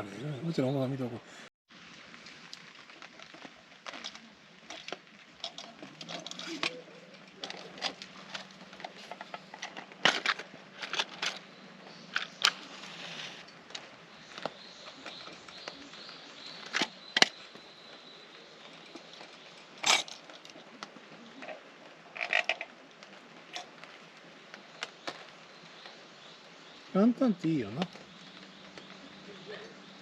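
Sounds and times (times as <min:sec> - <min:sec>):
campfire crackling: 0:01.7 - 0:30.0
burning wood popping: 0:01.8 - 0:30.0.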